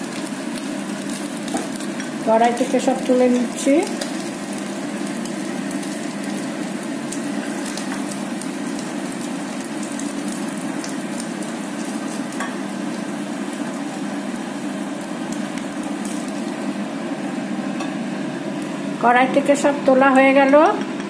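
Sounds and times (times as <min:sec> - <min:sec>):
potatoes frying in oil: 0:00.0 - 0:21.0.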